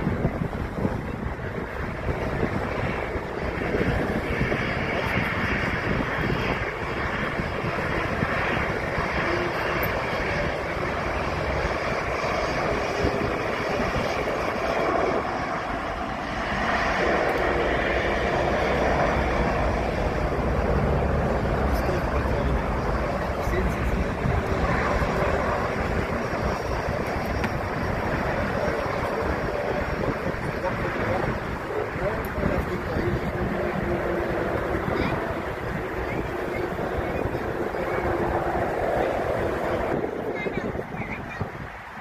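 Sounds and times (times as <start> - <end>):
jet engines roaring: 0.0 - 42.0
wind buffeting microphone: 0.0 - 42.0.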